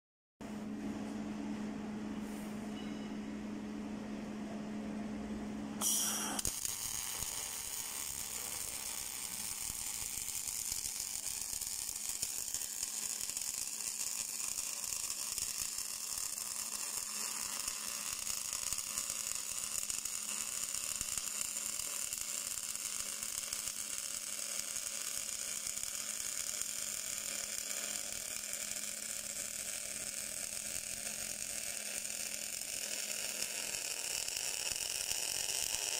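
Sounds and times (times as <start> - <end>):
electrical hum: 0.4 - 35.9
welding arc sizzling hiss: 5.8 - 35.9.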